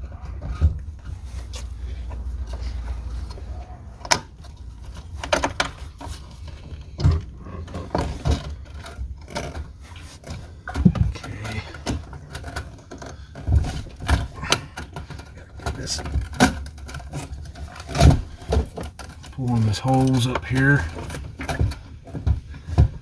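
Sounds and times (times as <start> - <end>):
parts being handled: 0.0 - 23.0.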